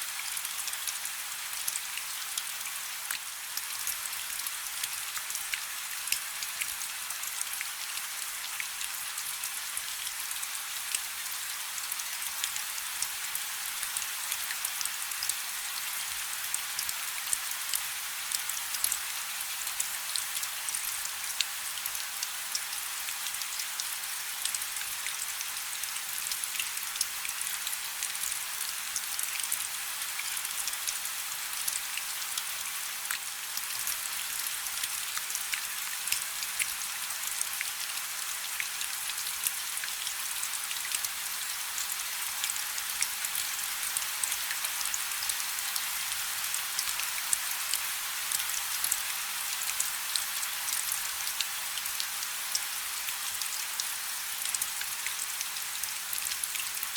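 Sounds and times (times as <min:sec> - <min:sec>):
rain falling on a river: 0:00.0 - 0:56.9.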